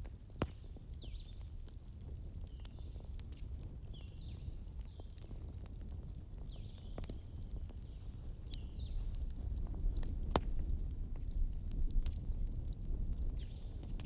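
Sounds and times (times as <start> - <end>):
fire crackles and pops: 0.0 - 14.0
fire rumbling: 0.0 - 14.0.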